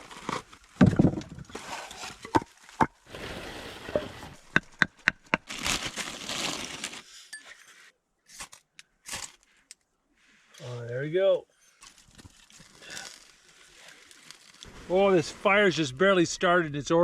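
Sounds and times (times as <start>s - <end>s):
camping gear rustling: 0.0s - 10.9s, 11.5s - 15.6s.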